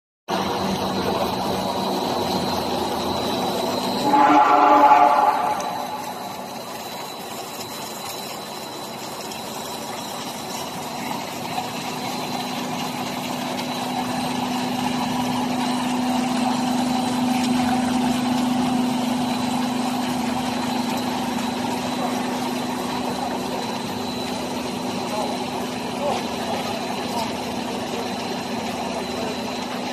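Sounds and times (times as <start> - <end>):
electric motors humming: 0.3 - 29.9.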